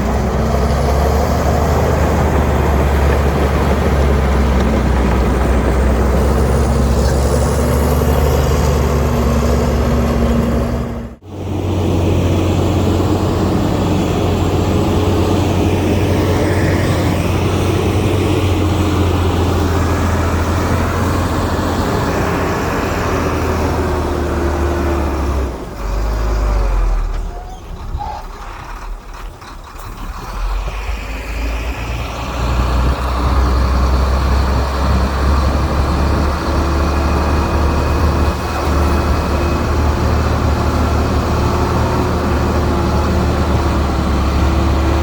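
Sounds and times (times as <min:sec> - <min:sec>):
heavy machinery diesel engine: 0:00.0 - 0:45.0.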